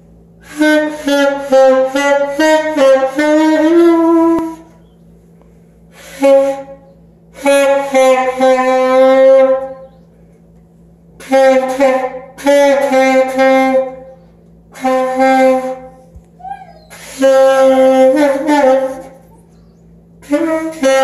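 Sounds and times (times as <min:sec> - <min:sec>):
alto saxophone notes: 0:00.4 - 0:04.8, 0:05.9 - 0:09.9, 0:11.2 - 0:19.6, 0:20.2 - 0:21.0.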